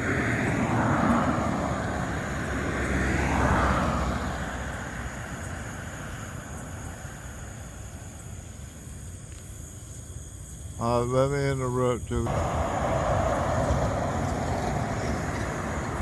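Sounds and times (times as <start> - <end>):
road traffic passing: 0.0 - 9.1, 11.9 - 16.0.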